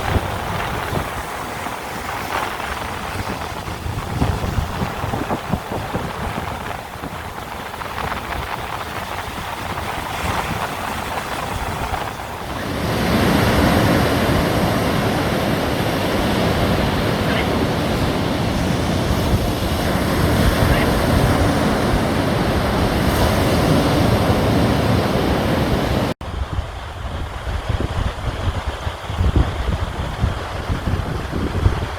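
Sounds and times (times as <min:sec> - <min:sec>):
sea waves washing onto shore: 0:00.0 - 0:31.9
wind buffeting microphone: 0:00.0 - 0:31.9.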